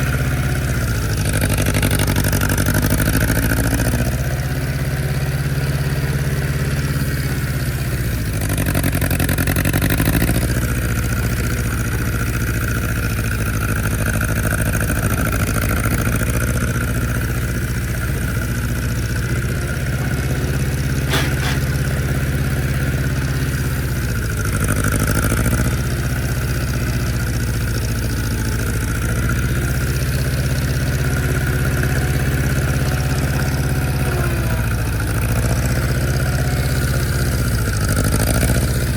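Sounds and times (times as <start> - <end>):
vehicle engine running at low revs: 0.0 - 38.9.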